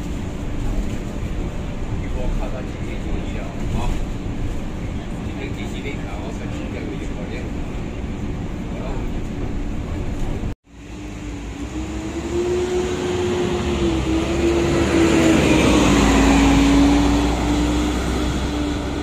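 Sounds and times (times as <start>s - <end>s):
bus engine pulling away: 0.0s - 19.0s
road noise: 0.0s - 19.0s.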